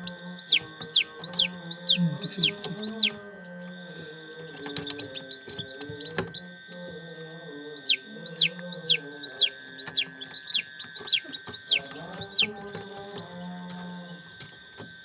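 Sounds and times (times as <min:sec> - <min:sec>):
background music: 0:00.0 - 0:13.8
chicks peeping: 0:00.0 - 0:14.6.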